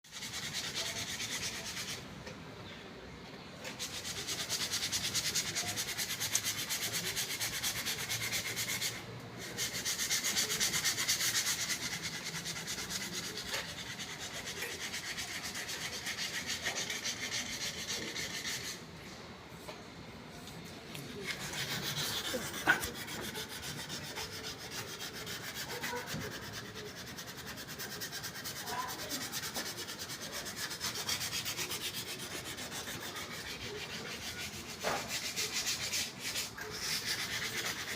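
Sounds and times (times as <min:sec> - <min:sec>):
rasping sanding on hard surface: 0:00.1 - 0:02.0, 0:03.7 - 0:18.8, 0:21.0 - 0:37.9.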